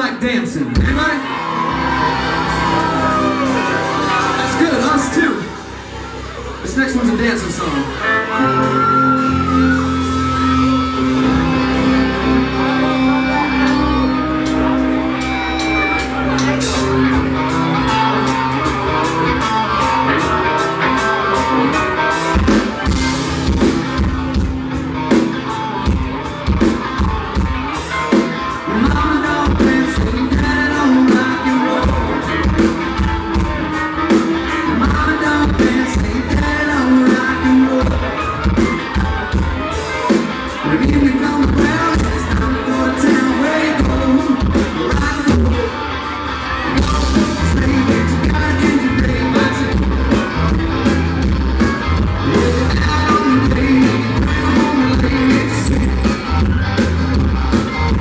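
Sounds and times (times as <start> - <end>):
live country band playing: 0.0 - 58.0
drum kit beat: 2.0 - 7.5, 8.5 - 45.7, 46.7 - 58.0.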